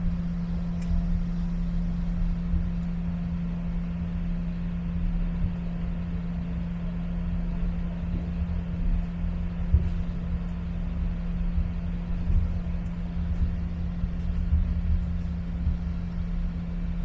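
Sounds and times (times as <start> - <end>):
jet cabin hum and rumble: 0.0 - 17.0.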